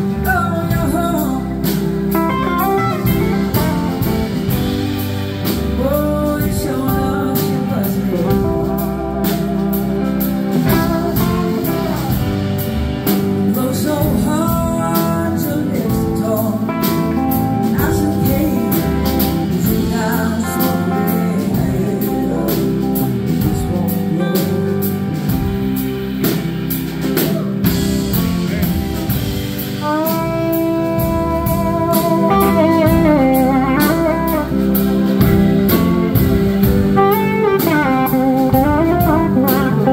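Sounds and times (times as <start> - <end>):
person singing: 0.0 - 26.4, 27.0 - 39.9
live blues-rock band: 0.0 - 39.9
sliding electric guitar: 0.0 - 39.9.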